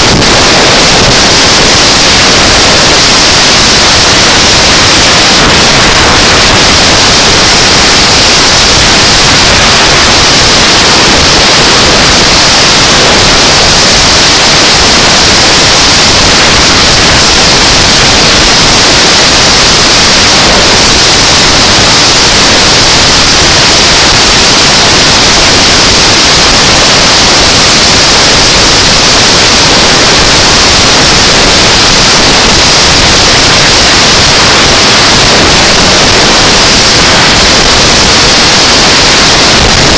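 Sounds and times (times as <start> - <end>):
wind hissing over microphone: 0.0 - 39.9.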